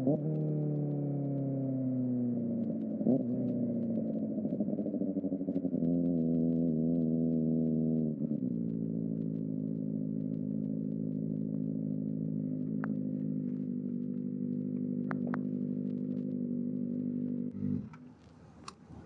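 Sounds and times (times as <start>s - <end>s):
motorcycle engine idling: 0.0s - 18.6s.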